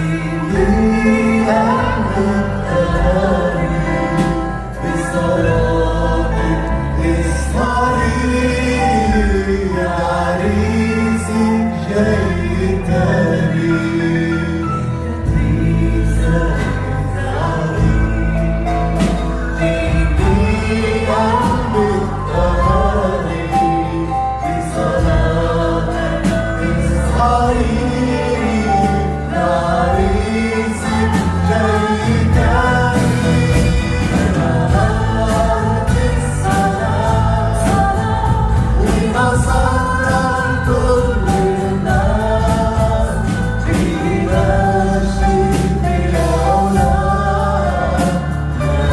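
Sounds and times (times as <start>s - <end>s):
group singing worship song: 0.0s - 48.9s
live instrumental accompaniment: 0.0s - 48.9s.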